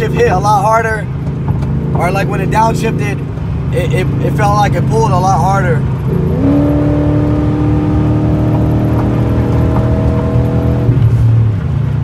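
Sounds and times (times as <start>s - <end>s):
car engine at full throttle: 0.0s - 12.0s
road drone: 0.0s - 12.0s.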